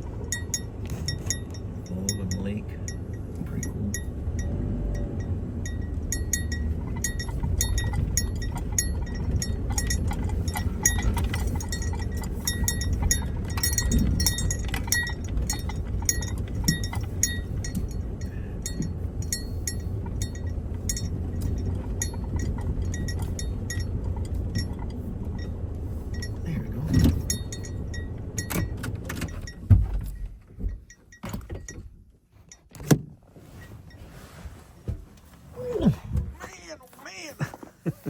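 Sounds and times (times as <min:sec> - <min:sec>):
vehicle rumbling on rough road: 0:00.0 - 0:38.0.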